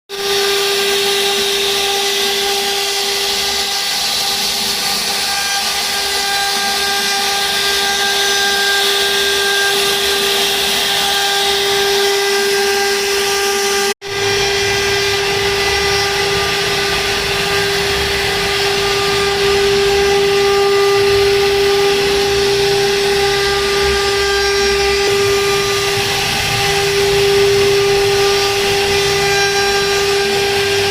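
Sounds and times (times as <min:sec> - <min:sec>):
machine spindle whine: 0:00.1 - 0:30.9.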